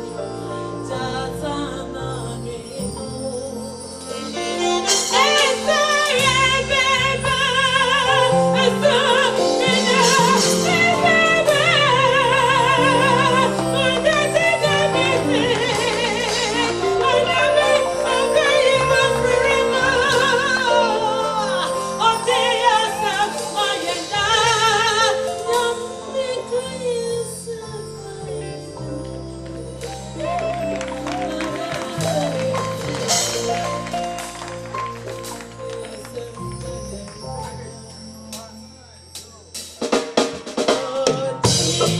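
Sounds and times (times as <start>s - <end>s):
live backing music: 0.0s - 41.9s
woman singing gospel: 0.1s - 34.3s, 35.3s - 38.1s, 40.6s - 41.9s.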